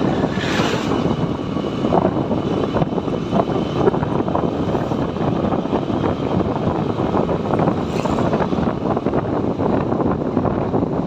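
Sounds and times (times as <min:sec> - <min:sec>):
motorcycle engine running: 0:00.0 - 0:11.0
wind noise on microphone: 0:00.0 - 0:11.0.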